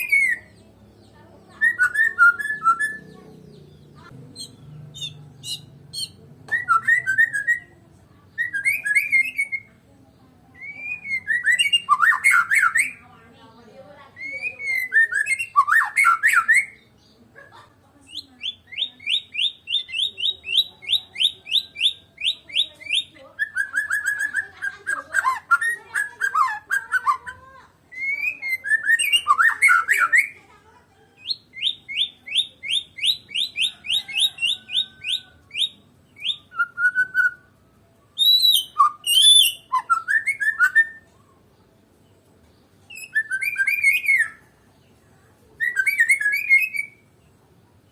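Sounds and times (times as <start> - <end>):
songbird whistling song: 0.0 - 17.2, 18.0 - 30.4, 31.2 - 47.9.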